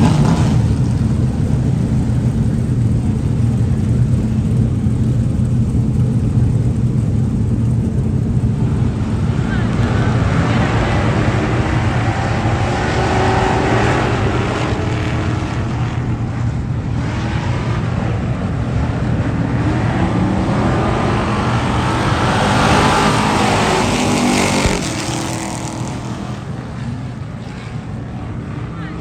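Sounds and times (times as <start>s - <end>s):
race car engines passing: 0.0s - 29.0s.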